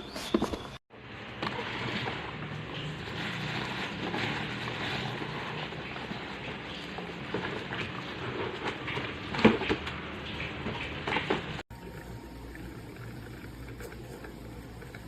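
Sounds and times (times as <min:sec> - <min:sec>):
coffee maker gurgling: 0:01.0 - 0:15.0.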